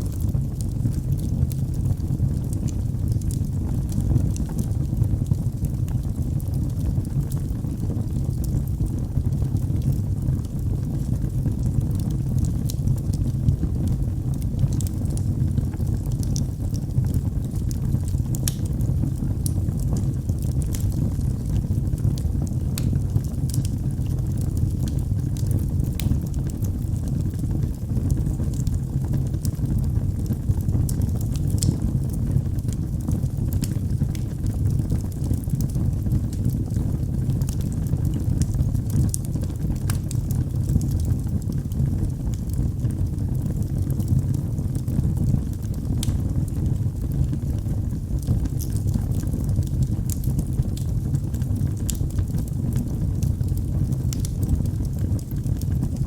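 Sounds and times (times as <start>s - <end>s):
fire crackling and popping: 0.0s - 56.0s
flames rumbling: 0.0s - 56.0s.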